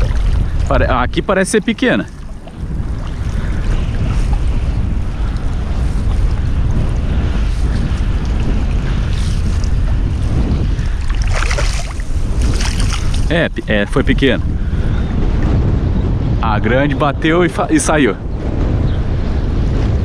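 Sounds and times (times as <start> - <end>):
surf washing: 0.0 - 20.0
wind rumbling on microphone: 0.0 - 20.0.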